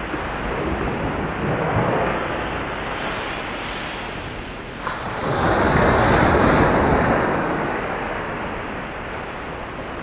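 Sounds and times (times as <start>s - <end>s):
ocean waves breaking: 0.0s - 10.0s
wind on microphone: 0.0s - 10.0s.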